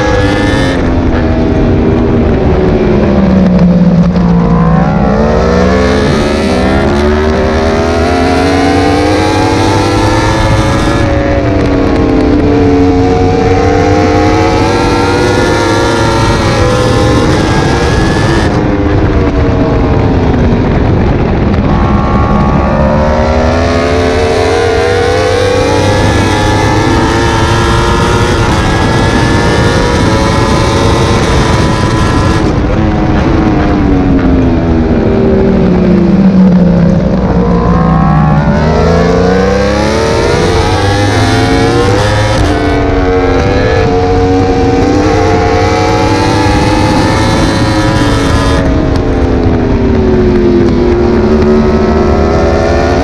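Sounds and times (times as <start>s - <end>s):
motorcycle engine at racing speed: 0.0s - 53.0s
wind rushing past: 0.0s - 53.0s.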